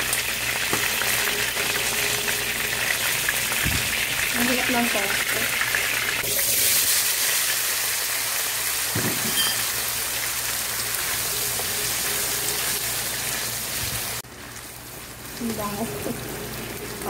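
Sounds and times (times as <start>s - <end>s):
potatoes sizzling in a pan: 0.0s - 17.0s.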